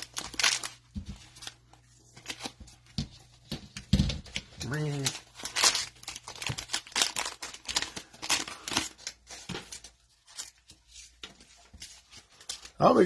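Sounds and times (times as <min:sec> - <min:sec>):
cellophane wrapper crinkling and tearing: 0:00.0 - 0:03.0, 0:04.3 - 0:13.0.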